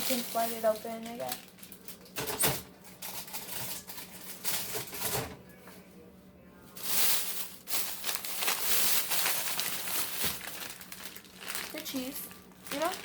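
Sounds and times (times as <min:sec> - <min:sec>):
plastic packaging rustling and crinkling: 0:00.0 - 0:05.4, 0:06.7 - 0:13.0
faint low hum: 0:00.0 - 0:13.0.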